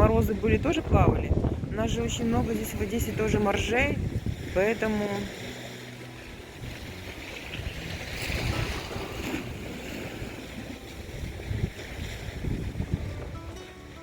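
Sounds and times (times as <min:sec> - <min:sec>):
waves washing onto shore: 0:00.0 - 0:14.0
wind buffeting microphone: 0:00.0 - 0:14.0.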